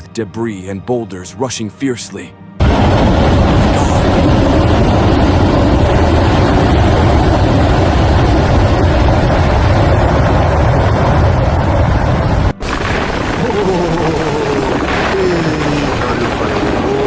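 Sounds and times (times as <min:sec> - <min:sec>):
debris flow rumbling rush: 0:02.6 - 0:17.0.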